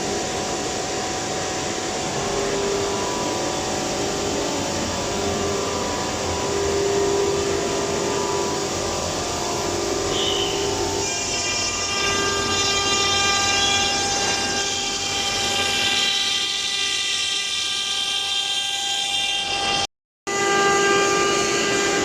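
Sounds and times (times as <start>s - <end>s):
router whining: 1.7s - 22.0s.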